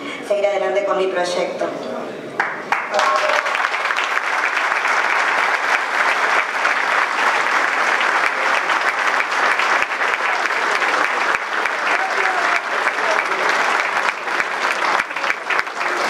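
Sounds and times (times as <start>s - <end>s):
crowd applauding: 2.4s - 16.0s.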